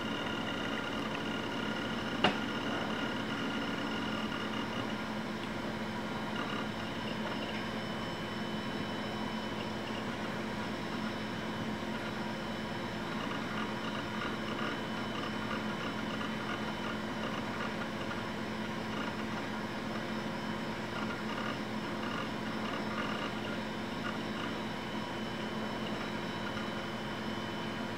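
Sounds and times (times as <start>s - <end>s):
computer fan and drive whirring: 0.0s - 27.9s.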